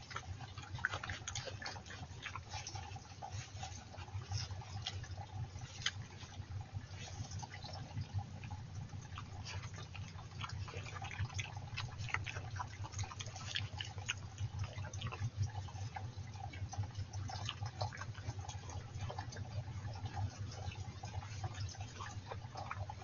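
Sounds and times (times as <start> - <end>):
badger snuffling and rooting: 0.0 - 23.0
stream trickling: 0.0 - 23.0.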